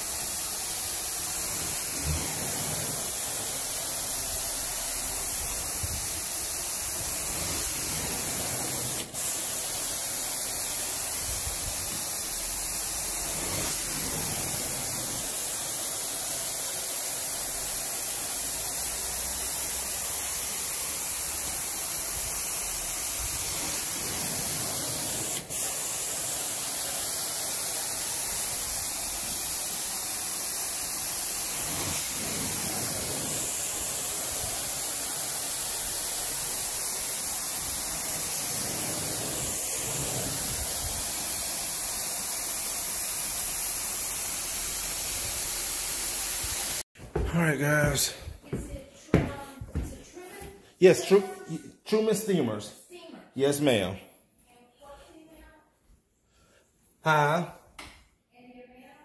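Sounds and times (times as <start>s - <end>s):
carpet cleaner hissing: 0.0s - 50.0s.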